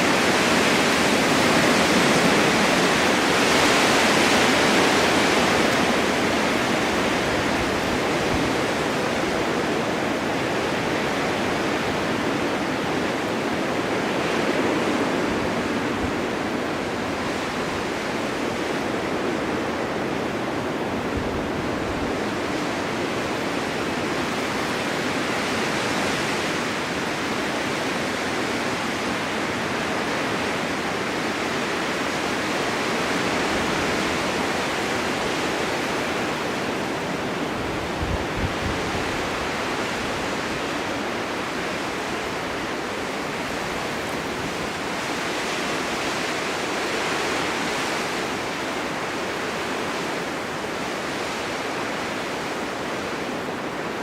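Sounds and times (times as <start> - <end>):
blizzard wind: 0.0 - 54.0
low wind buffets: 0.0 - 54.0.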